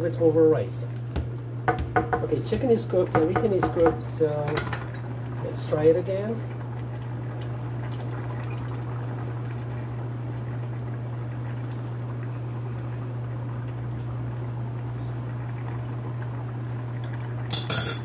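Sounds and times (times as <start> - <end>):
constant low hum: 0.0 - 18.0
curry bubbling in a pan: 1.0 - 17.5.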